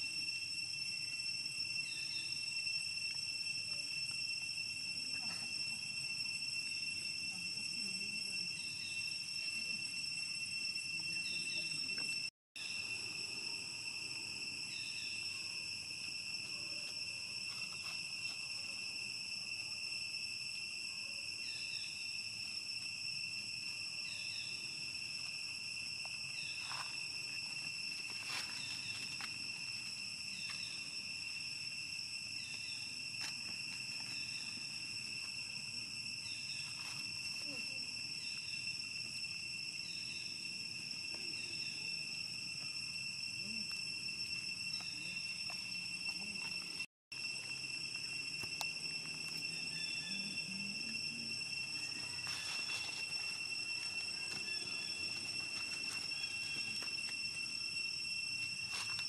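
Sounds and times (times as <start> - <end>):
insects calling in high drone: 0.0 - 59.0.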